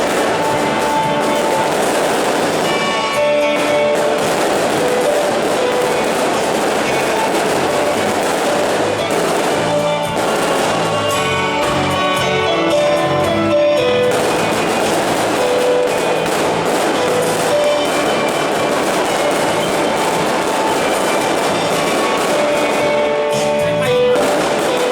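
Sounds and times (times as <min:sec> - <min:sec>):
fireworks crackling: 0:00.0 - 0:24.9
loud music: 0:00.0 - 0:24.9.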